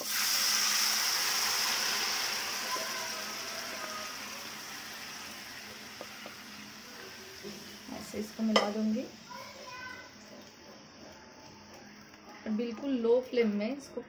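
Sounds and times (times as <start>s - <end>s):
lentils sizzling in hot oil: 0.0s - 13.9s.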